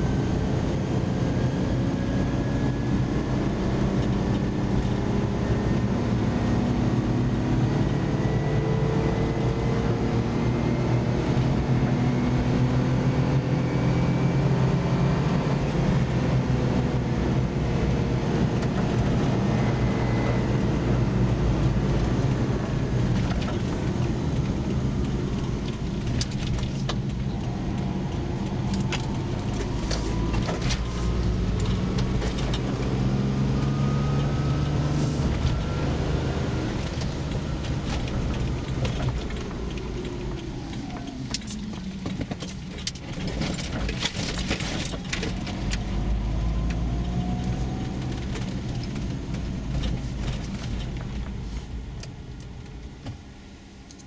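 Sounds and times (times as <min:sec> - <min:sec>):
car engine from inside cabin: 0:00.0 - 0:54.0
road noise: 0:00.0 - 0:54.0.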